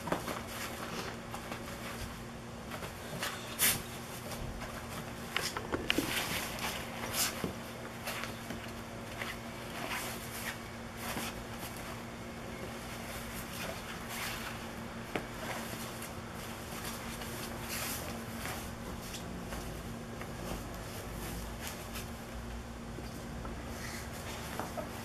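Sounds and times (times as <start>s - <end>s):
fabric rustling: 0.0s - 22.3s
faint hum: 0.0s - 25.0s.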